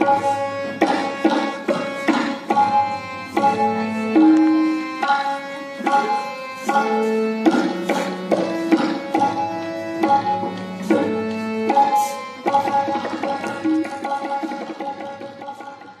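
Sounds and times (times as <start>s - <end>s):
harmonium melody: 0.0s - 16.0s.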